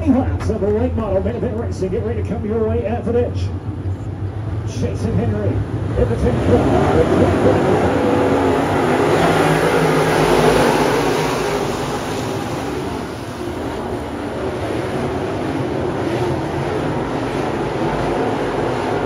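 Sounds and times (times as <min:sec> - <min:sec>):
race car engines at full throttle: 0:00.0 - 0:19.0.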